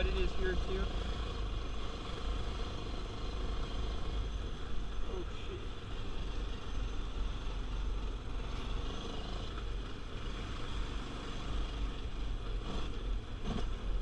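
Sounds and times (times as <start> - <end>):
atv engine rumbling: 0.0 - 14.0.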